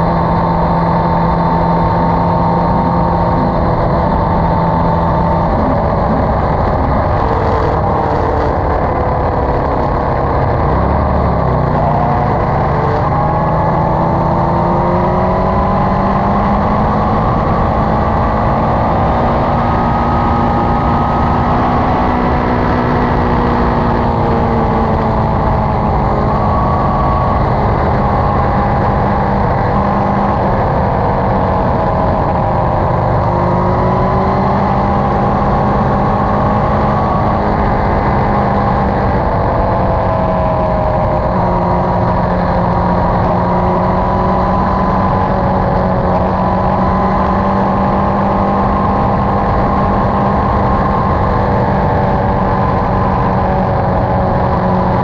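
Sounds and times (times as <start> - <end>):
motorcycle engine running: 0.0 - 55.0
wind and road rush: 0.0 - 55.0.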